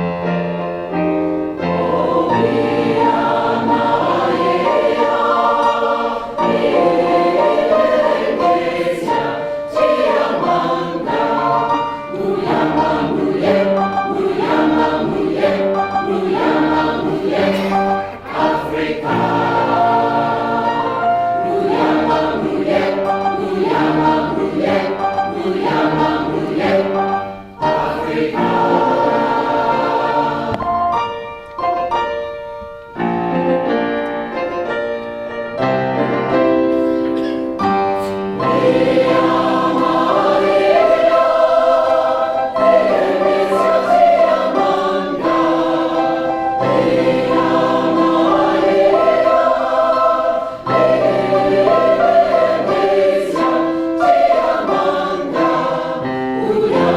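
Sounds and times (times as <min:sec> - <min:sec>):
choir singing: 0:01.5 - 0:31.2, 0:36.9 - 0:56.9.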